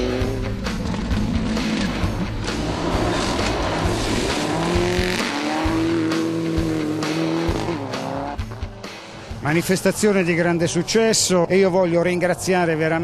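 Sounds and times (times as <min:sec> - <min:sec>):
rally car engines revving: 0:00.0 - 0:13.0.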